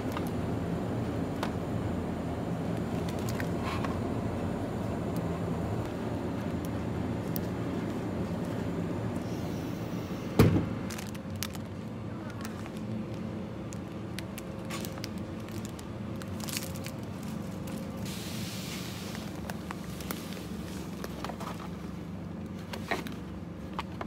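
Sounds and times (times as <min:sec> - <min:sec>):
steady low hum and rumble: 0:00.0 - 0:24.0.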